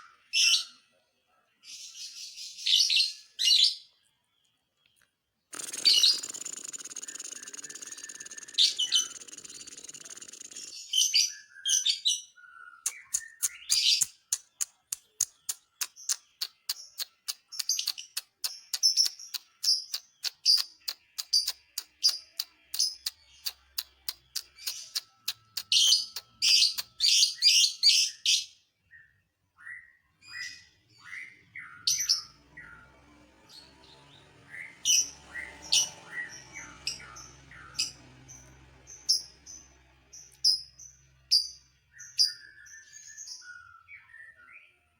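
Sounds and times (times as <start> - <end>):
lovebird chirping: 5.5 - 28.5, 30.2 - 44.4.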